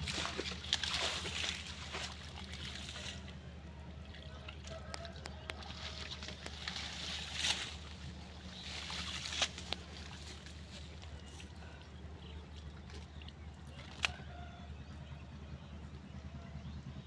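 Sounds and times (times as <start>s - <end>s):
muddy water sloshing and splashing: 0.0s - 15.0s.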